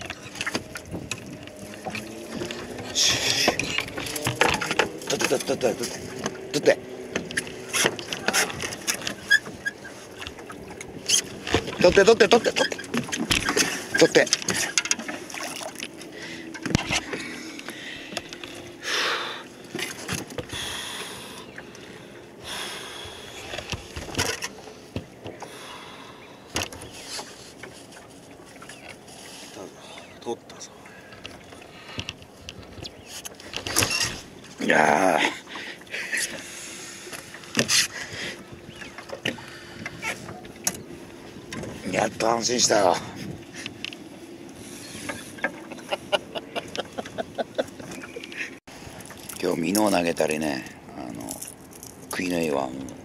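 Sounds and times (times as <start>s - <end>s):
water lapping against boat hull: 0.0s - 53.0s.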